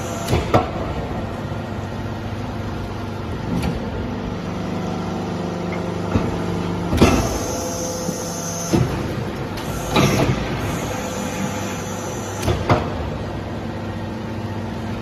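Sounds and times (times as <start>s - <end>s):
hydraulic unit humming: 0.0s - 15.0s.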